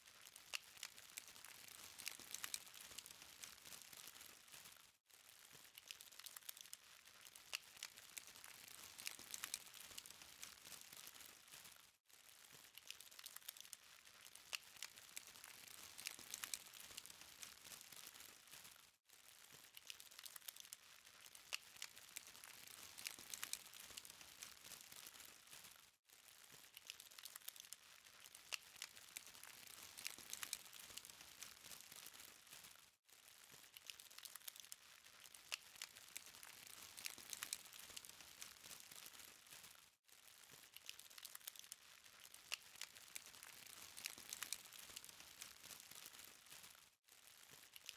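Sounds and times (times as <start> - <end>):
charcoal fire crackling: 0.0 - 47.9.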